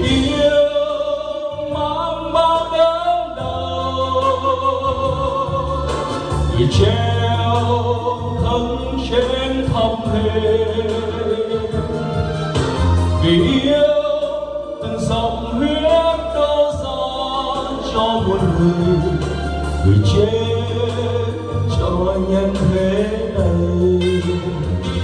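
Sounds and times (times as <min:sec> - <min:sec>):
backing track with bass line: 0:00.0 - 0:25.0
man singing into a microphone: 0:00.0 - 0:25.0.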